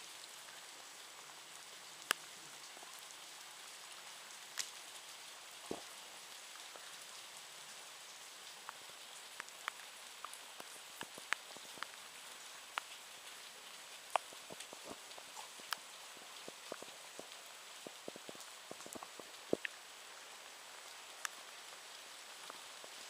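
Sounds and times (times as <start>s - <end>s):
light rain hissing: 0.0s - 23.0s.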